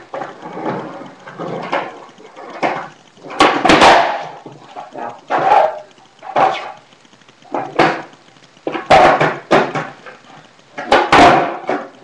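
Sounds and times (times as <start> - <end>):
skateboard hitting concrete floor: 0.0 - 6.8, 7.4 - 12.0.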